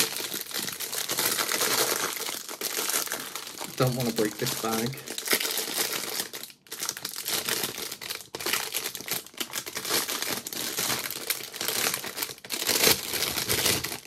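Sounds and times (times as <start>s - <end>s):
bag rustling and crinkling: 0.0s - 14.0s.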